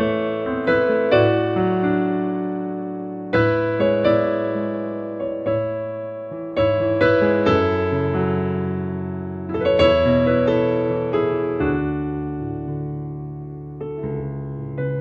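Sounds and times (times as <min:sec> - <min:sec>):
piano chords ringing: 0:00.0 - 0:15.0.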